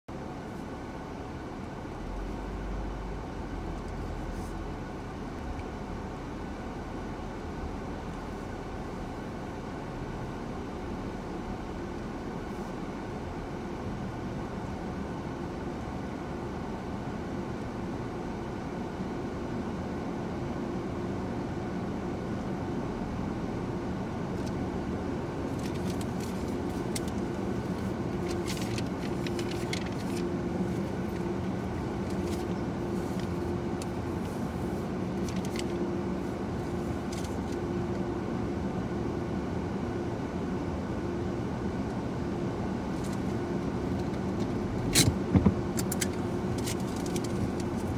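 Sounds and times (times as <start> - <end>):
car wash machinery hum: 0.1 - 47.9.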